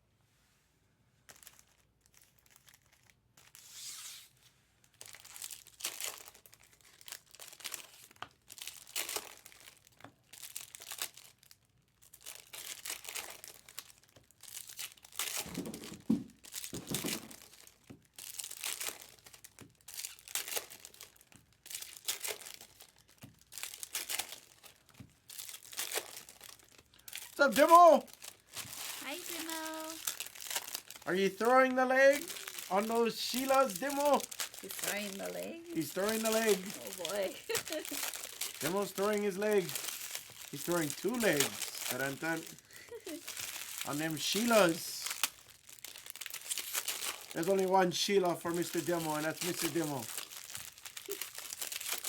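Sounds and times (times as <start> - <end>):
foil wrappers crinkling and tearing: 1.3 - 4.0, 4.8 - 52.0.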